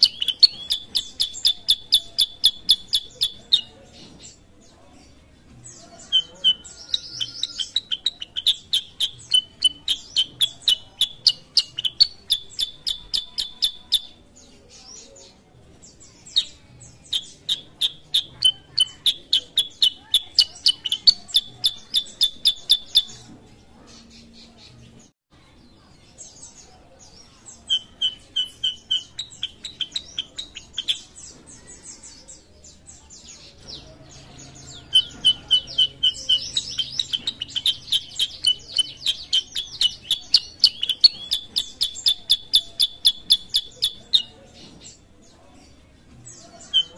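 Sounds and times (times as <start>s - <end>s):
bird singing fast chirps: 0.0s - 4.4s, 5.6s - 23.3s, 26.2s - 45.1s.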